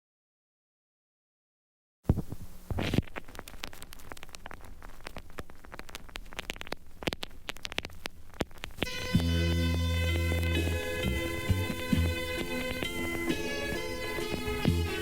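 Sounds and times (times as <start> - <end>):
dense crackling clicks and pops: 2.1 - 15.0.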